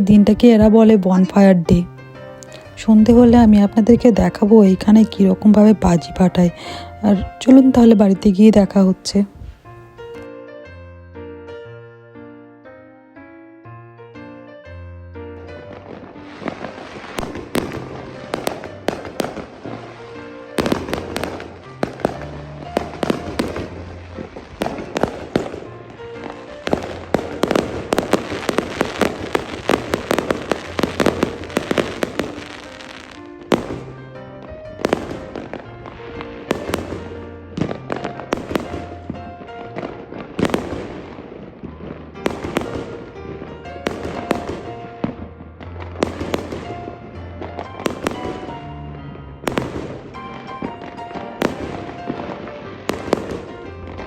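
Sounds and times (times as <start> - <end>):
fireworks banging: 0.0 - 8.4, 15.6 - 48.8, 49.4 - 54.0.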